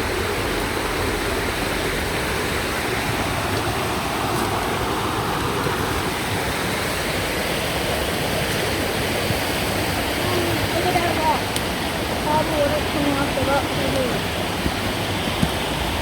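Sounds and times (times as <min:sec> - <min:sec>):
water cascading off rock: 0:00.0 - 0:16.0.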